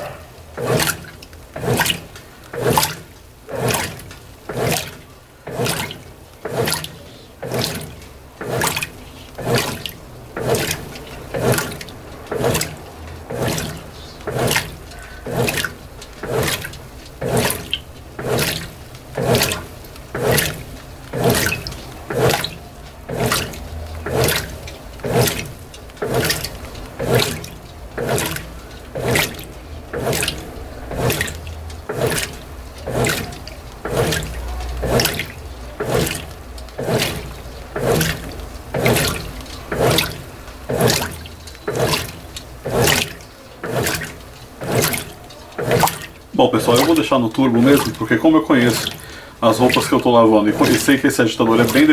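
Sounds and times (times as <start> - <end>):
low motor rumble: 0.0 - 51.9
washer agitator sloshing water: 0.0 - 51.9.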